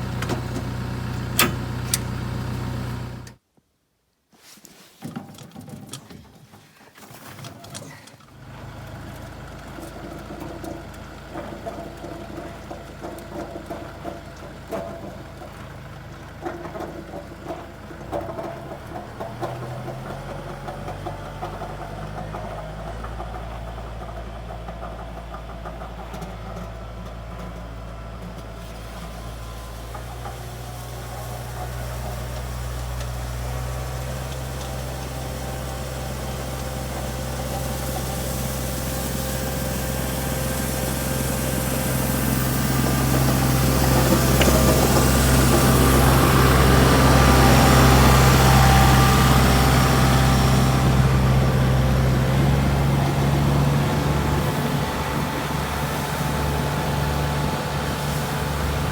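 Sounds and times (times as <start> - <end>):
tractor engine starting and idling: 0.0 - 3.4, 5.4 - 58.9.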